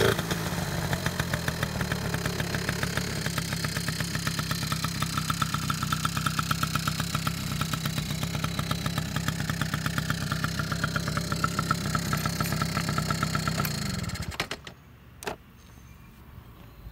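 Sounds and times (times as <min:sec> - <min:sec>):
small engine idling: 0:00.0 - 0:14.8.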